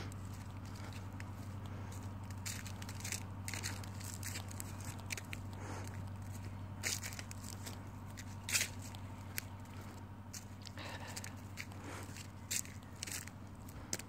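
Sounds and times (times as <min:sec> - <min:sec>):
footsteps crunching on dry leaves: 0:00.0 - 0:14.0
steady low hum: 0:00.0 - 0:14.0.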